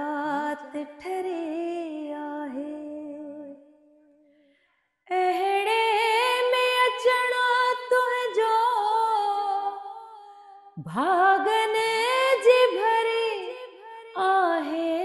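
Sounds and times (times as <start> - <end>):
woman singing unaccompanied: 0.0 - 4.0, 5.1 - 15.0.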